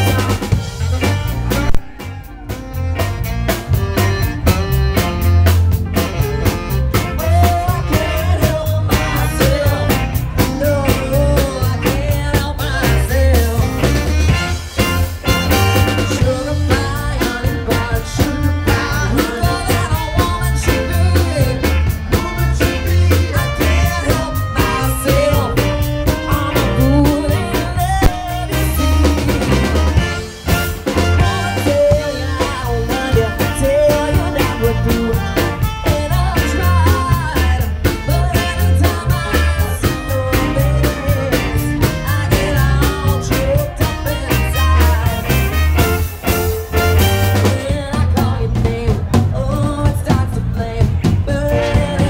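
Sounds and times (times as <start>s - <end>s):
person singing: 0.0s - 52.0s
soul band playing: 0.0s - 52.0s.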